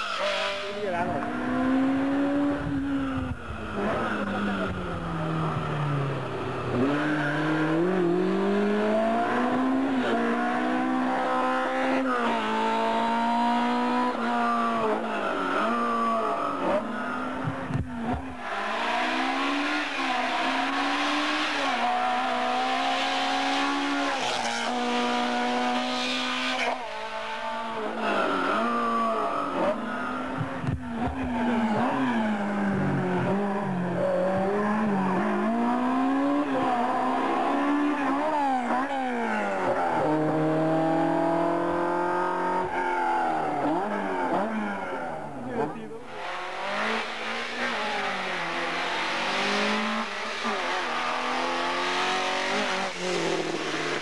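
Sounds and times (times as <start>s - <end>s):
racing car engines revving: 0.0s - 54.0s.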